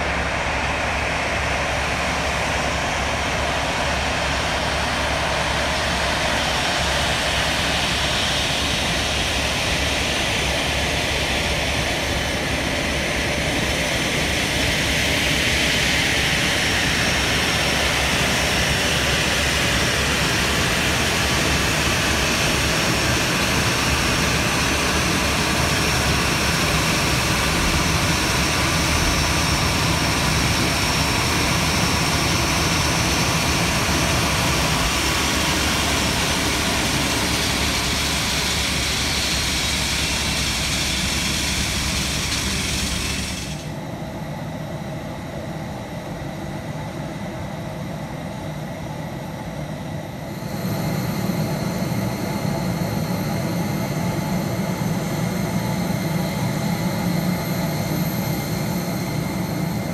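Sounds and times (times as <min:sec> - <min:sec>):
jet engines idling with whine: 0:00.0 - 0:59.9.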